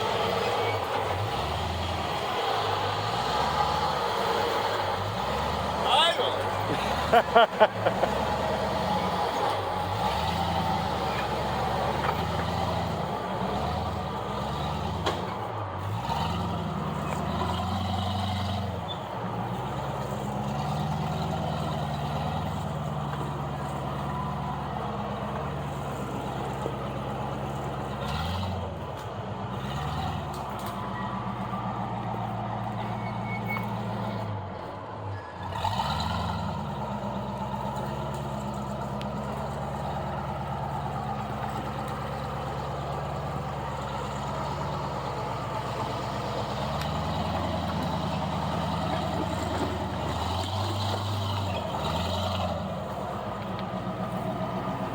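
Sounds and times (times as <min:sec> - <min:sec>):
off-road vehicle engine revving: 0:00.0 - 0:34.4, 0:35.4 - 0:54.9.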